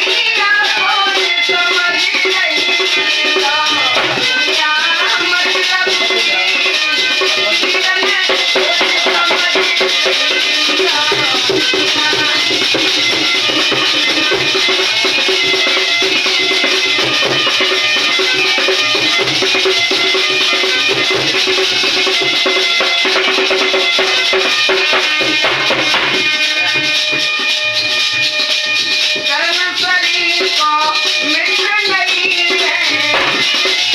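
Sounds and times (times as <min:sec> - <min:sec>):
dholak drum beat: 0:00.0 - 0:33.9
light hand percussion: 0:00.0 - 0:33.9.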